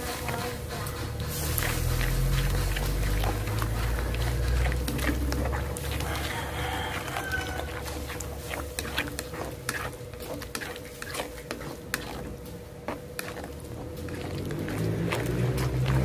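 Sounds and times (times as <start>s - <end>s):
ladle scraping metal wok: 0.0s - 16.0s
ladle stirring broth: 0.0s - 16.0s.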